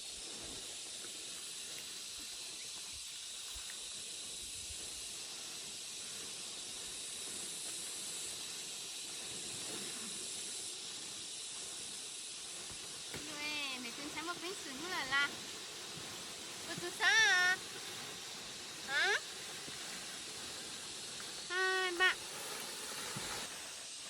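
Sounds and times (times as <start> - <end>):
high-pitched hiss: 0.0 - 24.0.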